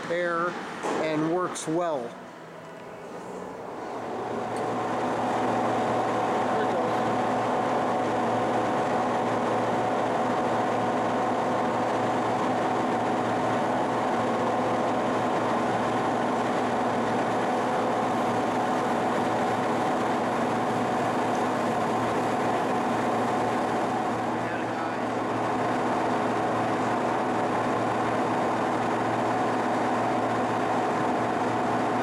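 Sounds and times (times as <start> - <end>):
lathe machine hum: 0.0 - 32.0.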